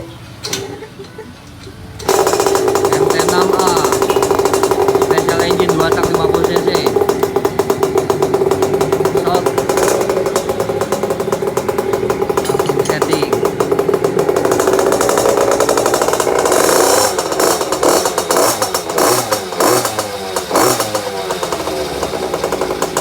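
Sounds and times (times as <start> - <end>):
two-stroke motorbike engine revving: 1.8 - 23.0.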